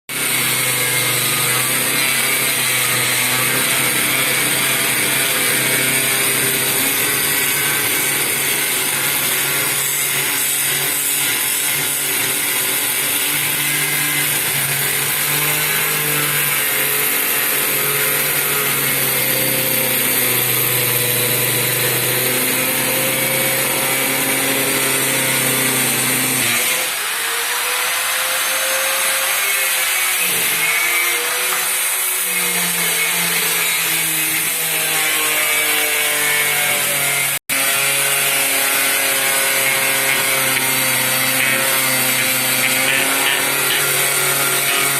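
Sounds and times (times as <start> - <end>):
circular saw cutting board: 0.1 - 44.9.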